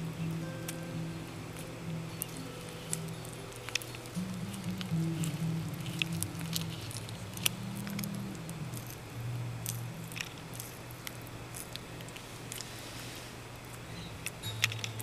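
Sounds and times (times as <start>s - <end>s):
lizard chewing leaves: 1.5s - 15.0s.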